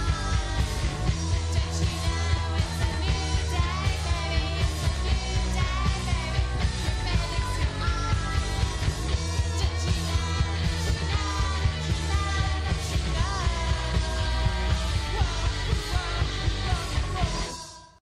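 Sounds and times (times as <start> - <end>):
singing over heavy bass beat: 0.0 - 18.0.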